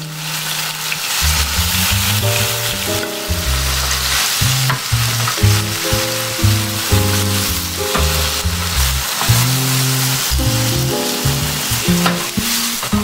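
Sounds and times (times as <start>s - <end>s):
jazz music with bass: 0.0s - 13.0s
tofu sizzling in a frying pan: 0.0s - 13.0s.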